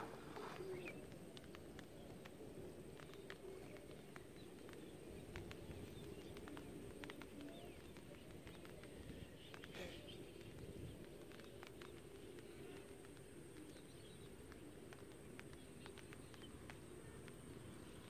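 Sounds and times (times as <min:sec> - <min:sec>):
birds calling: 0:00.0 - 0:18.0
faint ticks: 0:00.0 - 0:18.0.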